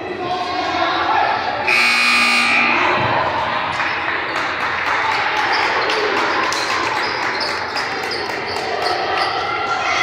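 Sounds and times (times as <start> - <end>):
murmur of crowd voices: 0.0 - 10.0.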